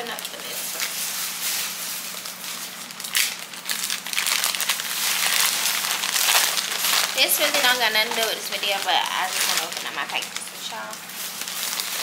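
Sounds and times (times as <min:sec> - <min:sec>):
plastic mailer crinkling: 0:00.0 - 0:12.0.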